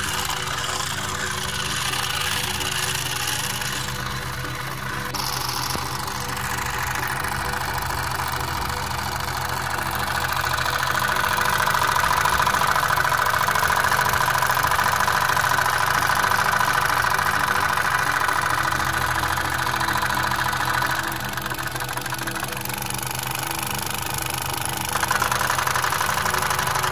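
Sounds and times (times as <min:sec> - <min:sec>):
steam engine chuffing: 0:00.0 - 0:26.9.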